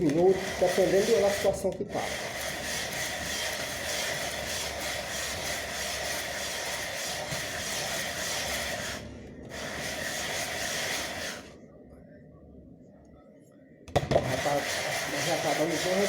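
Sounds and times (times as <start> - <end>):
metal rubbed on sandpaper: 0.2 - 11.5, 14.2 - 16.0.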